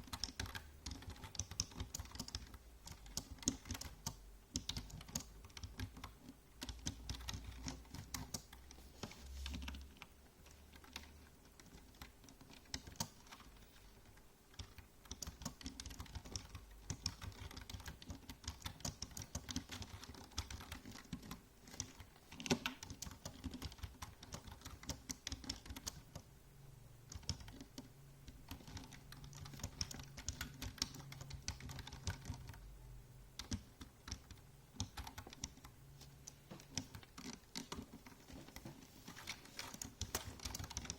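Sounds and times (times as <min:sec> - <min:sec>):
typing on computer keyboard: 0:00.0 - 0:26.3, 0:27.1 - 0:32.7, 0:33.4 - 0:40.9.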